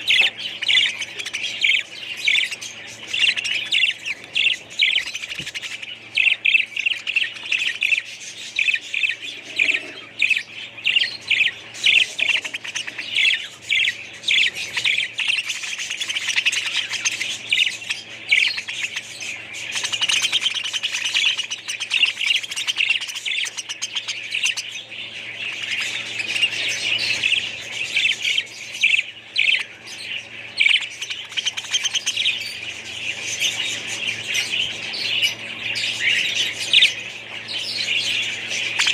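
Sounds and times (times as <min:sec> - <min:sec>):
faint low hum: 0:00.0 - 0:38.9
small birds chirping: 0:00.0 - 0:38.9.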